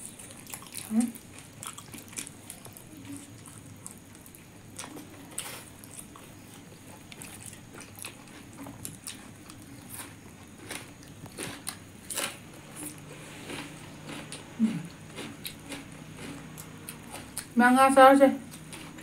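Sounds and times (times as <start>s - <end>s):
people chewing and lip smacks: 0.0s - 17.6s.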